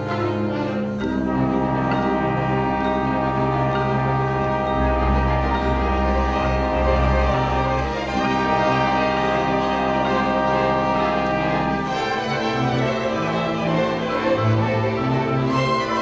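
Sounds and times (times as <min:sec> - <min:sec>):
double bass notes: 0:00.0 - 0:13.4
string orchestra playing chords: 0:00.0 - 0:16.0.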